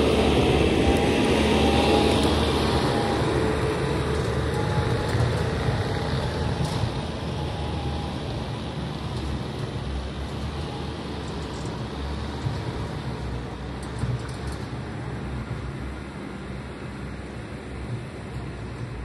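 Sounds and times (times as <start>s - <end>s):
track loader diesel engine: 0.0s - 19.0s.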